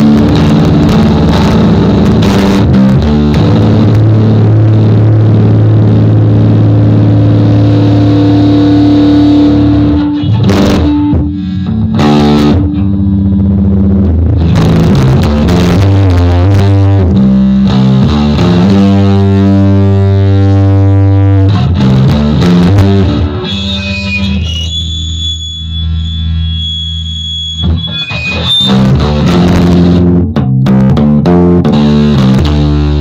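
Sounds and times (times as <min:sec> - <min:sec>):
distorted electric bass guitar: 0:00.0 - 0:33.0.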